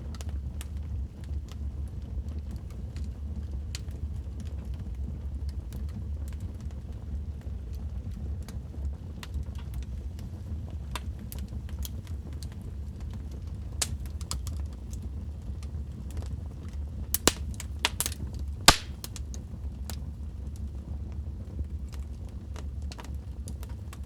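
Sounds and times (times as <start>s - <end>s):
fireplace fire crackling: 0.1s - 24.0s.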